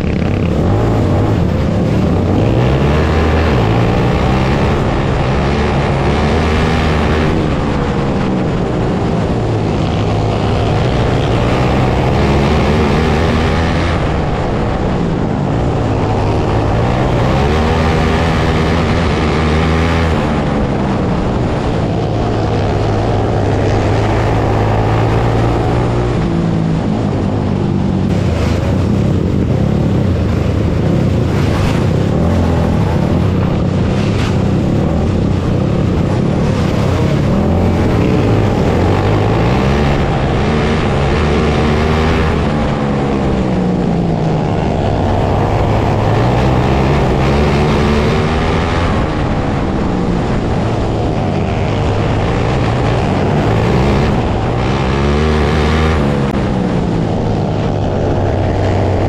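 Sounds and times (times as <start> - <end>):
kart engine revving: 0.0 - 59.0
steady rough noise: 0.0 - 59.0.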